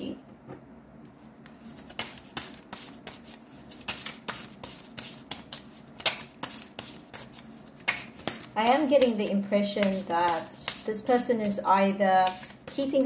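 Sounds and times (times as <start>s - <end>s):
cards being shuffled: 1.1s - 9.2s, 9.8s - 11.0s, 11.7s - 13.0s.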